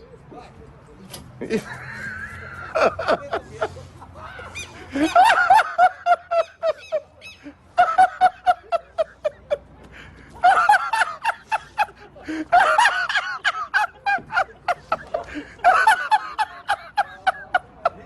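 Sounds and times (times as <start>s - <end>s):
high-pitched laughter: 1.4s - 18.0s.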